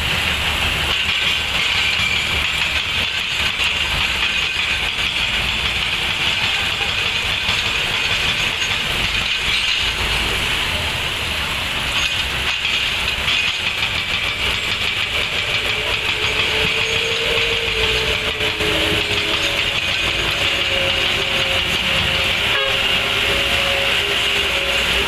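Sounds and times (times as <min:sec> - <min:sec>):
excavator running: 0:00.0 - 0:25.0.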